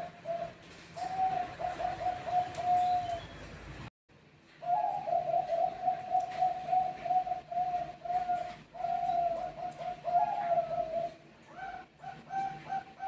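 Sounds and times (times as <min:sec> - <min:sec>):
dove cooing: 0:00.0 - 0:03.4, 0:04.6 - 0:13.0.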